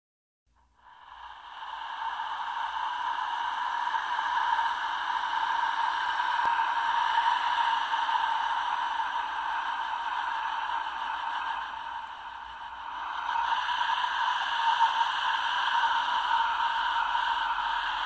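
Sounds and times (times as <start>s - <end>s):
steady hiss-like noise: 0.6s - 18.0s.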